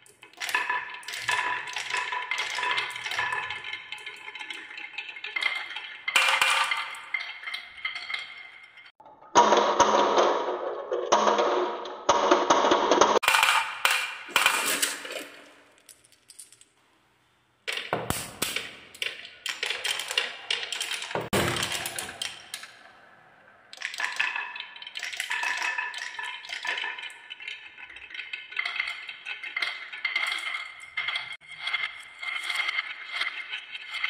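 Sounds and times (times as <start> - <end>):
wooden balls rolling and clattering: 0.0 - 16.9, 17.6 - 34.0.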